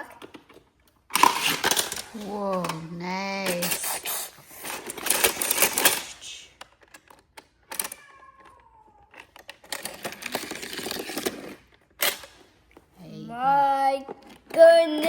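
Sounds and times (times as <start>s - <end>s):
plastic toy cars clattering on track: 0.0s - 12.6s, 13.7s - 15.0s.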